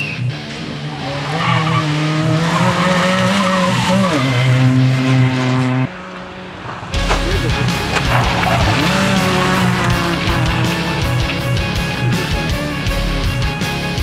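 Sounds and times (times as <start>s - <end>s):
rally car engine at high revs: 0.0s - 14.0s
steady engine hum: 0.0s - 14.0s.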